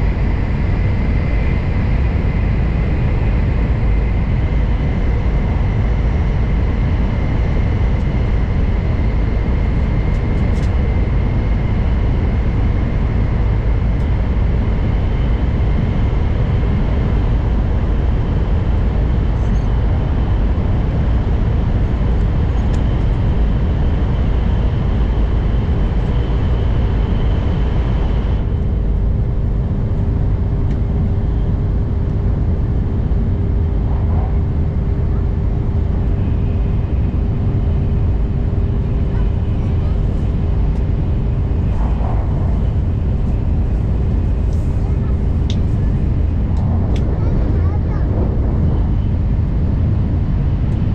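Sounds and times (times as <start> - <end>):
steady humming tone: 0.0 - 50.9
train rumbling at speed: 0.0 - 50.9.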